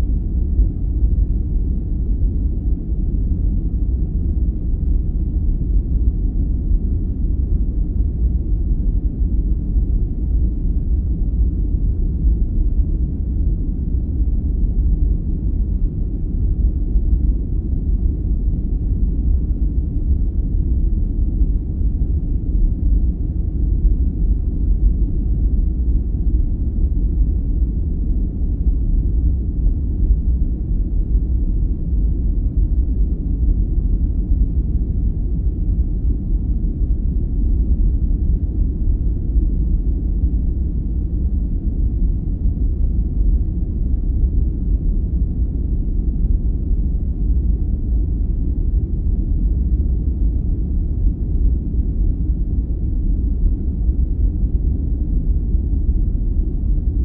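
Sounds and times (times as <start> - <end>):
deep muffled brown noise: 0.0 - 57.0.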